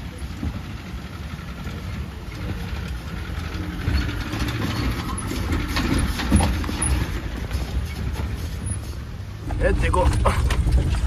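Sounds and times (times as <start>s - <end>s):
vehicle engine pulling uphill: 0.0s - 11.0s.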